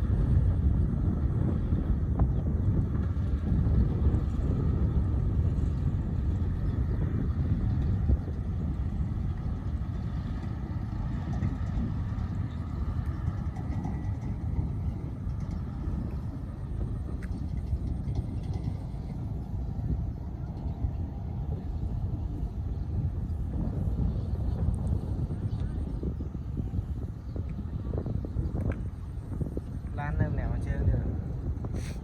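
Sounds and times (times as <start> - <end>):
diesel engine low rumble: 0.0 - 32.0.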